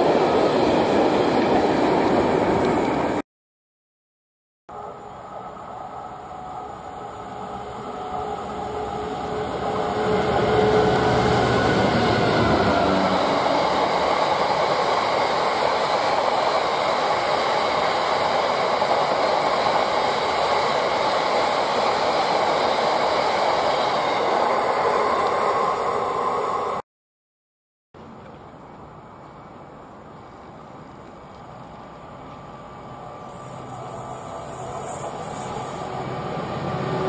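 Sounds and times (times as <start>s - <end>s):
diesel locomotive engine: 4.7s - 26.8s, 28.9s - 37.0s.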